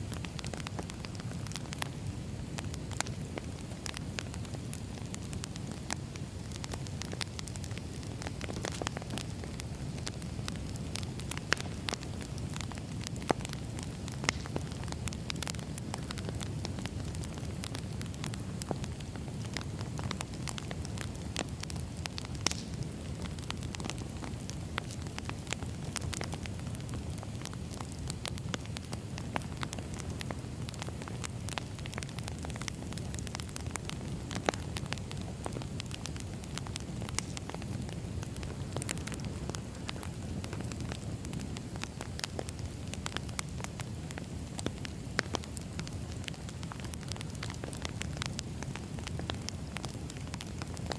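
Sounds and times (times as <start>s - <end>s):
campfire crackling and popping: 0.0s - 50.9s
low rumble of burning wood: 0.0s - 50.9s.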